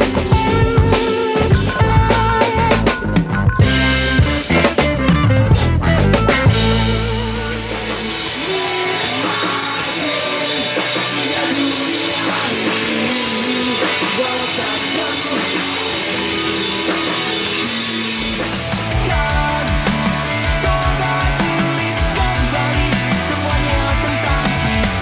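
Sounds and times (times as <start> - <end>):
rock music with drums and guitar: 0.0 - 25.0.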